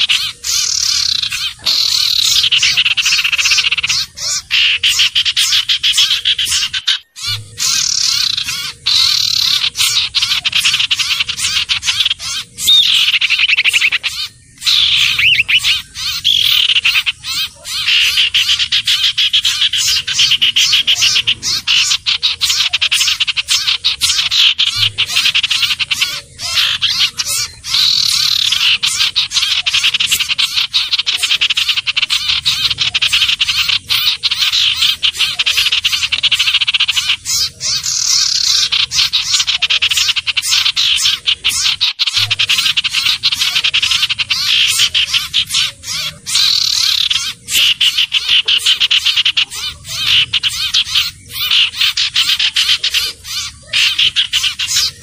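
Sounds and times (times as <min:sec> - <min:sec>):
bird chattering trills: 0:00.0 - 0:55.0.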